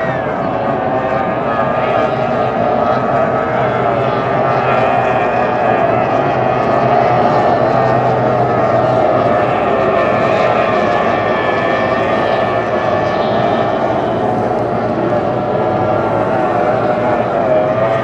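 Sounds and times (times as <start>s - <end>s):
racing boat engines droning: 0.0s - 18.0s.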